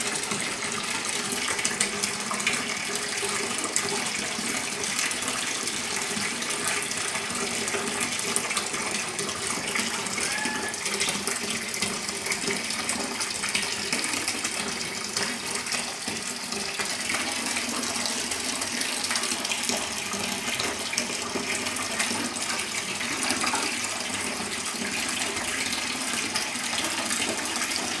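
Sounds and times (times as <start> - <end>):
water pouring into bathtub: 0.0 - 28.0.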